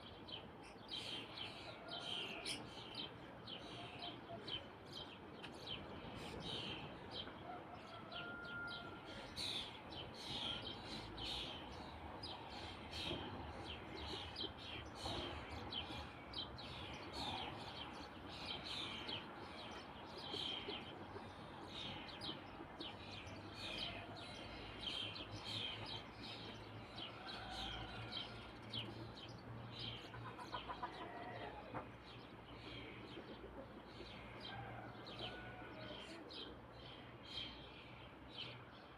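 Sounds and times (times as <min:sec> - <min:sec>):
faint background noise: 0:00.0 - 0:38.9.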